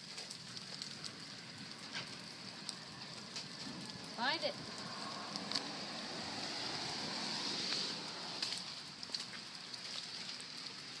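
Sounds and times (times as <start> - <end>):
faint ticks and crackles: 0.0 - 5.7, 7.7 - 11.0
steady outdoor hiss: 0.0 - 11.0.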